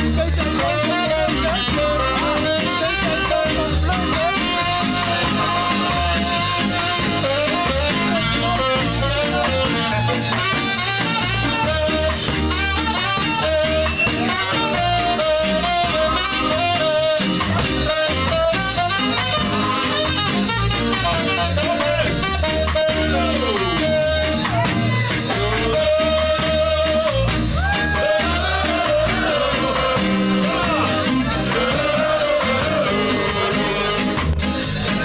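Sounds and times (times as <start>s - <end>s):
drum kit: 0.0s - 35.0s
electric guitar: 0.0s - 35.0s
saxophones: 0.0s - 35.0s.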